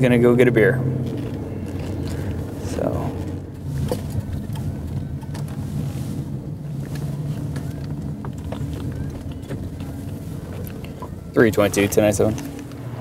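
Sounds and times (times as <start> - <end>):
car engine and road hum: 0.0 - 13.0.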